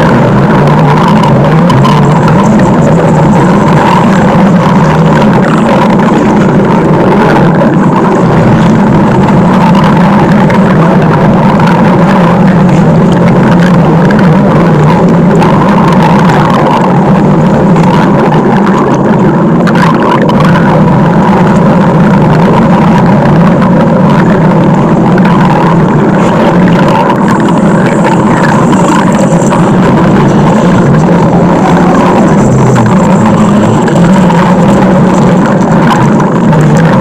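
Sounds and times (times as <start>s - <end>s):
stomach growl: 0.0s - 37.0s.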